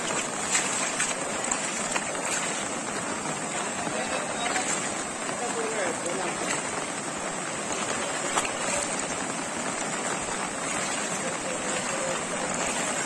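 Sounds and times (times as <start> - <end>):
rain falling on a flooded street: 0.0 - 13.0
running floodwater: 0.0 - 13.0.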